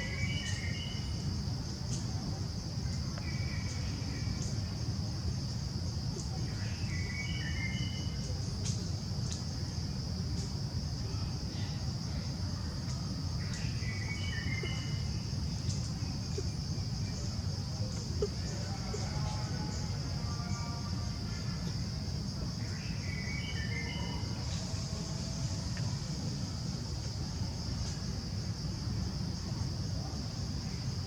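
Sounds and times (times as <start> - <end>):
short high insect calls: 0.0 - 2.2, 5.5 - 31.0.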